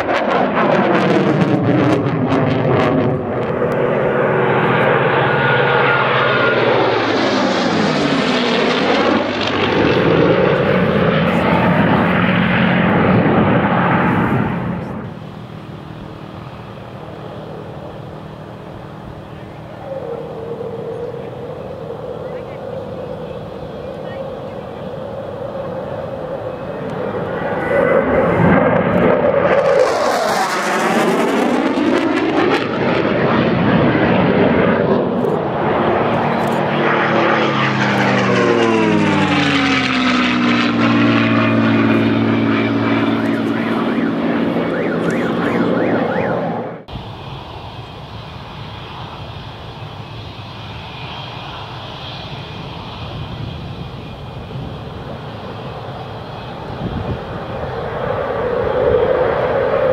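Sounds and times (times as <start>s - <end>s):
distant jet rumble: 0.0s - 59.9s
fighter jet flying past: 0.0s - 59.9s.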